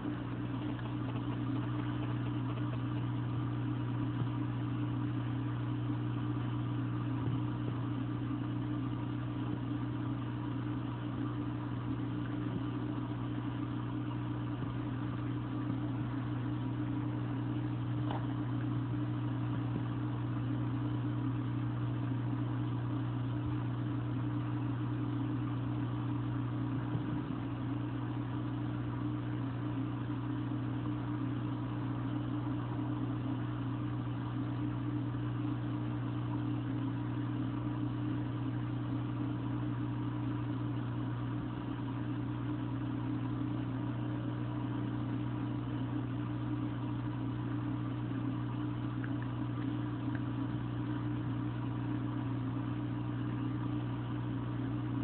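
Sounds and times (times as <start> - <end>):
aquarium pump humming: 0.0 - 55.0.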